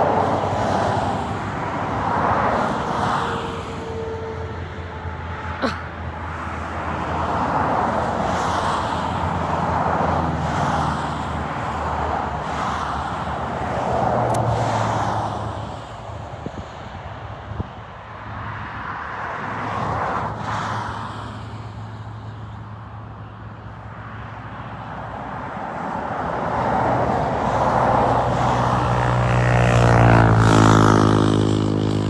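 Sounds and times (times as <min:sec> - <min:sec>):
vehicles passing on highway: 0:00.0 - 0:32.0.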